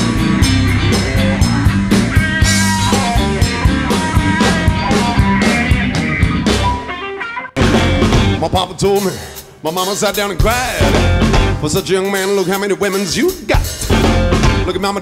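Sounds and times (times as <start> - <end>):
blues band playing: 0.0 - 15.0
drum kit beat: 0.0 - 15.0.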